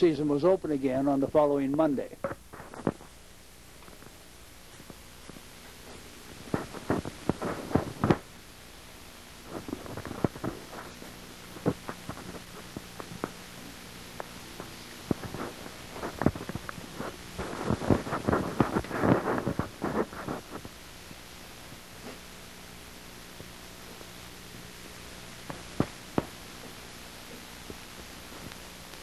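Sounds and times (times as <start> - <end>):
low background hiss: 0.0 - 29.0.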